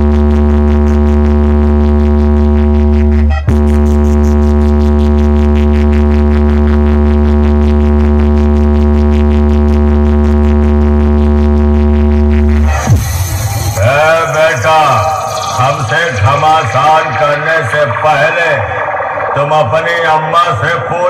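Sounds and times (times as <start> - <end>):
buzzing tone: 0.0 - 21.0
loud deep bass drone: 0.0 - 21.0.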